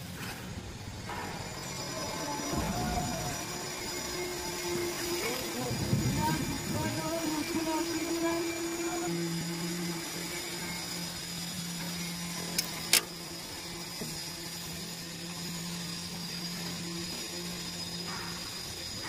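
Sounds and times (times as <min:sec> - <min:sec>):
low motor hum: 0:00.0 - 0:18.5.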